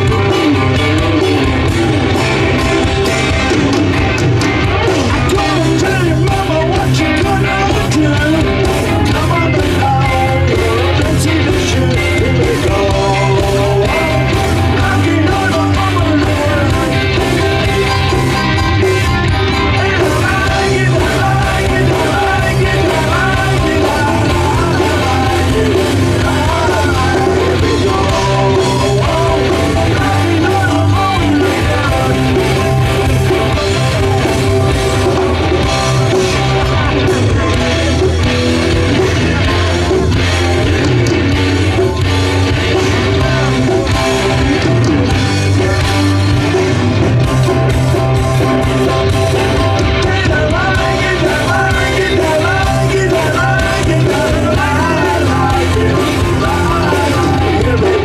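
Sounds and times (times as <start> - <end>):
bass guitar: 0.0 - 58.0
drums: 0.0 - 58.0
electric guitars: 0.0 - 58.0
man singing lead: 0.0 - 58.0.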